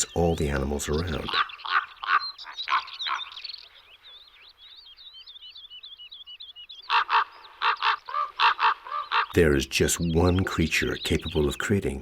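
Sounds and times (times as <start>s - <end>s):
rapid bird twittering: 0.0s - 12.0s
small birds alarm calls: 0.0s - 12.0s.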